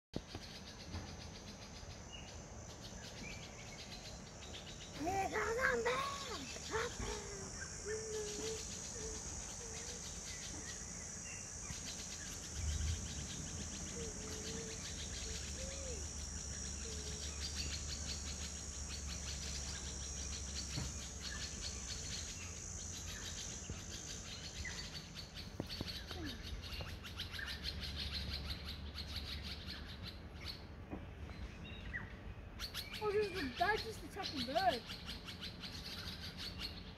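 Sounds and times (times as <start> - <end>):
faint chirps: 0.2 - 30.6
high-pitched insect chorus: 0.2 - 30.6, 32.6 - 36.9
low steady hum: 0.3 - 36.9.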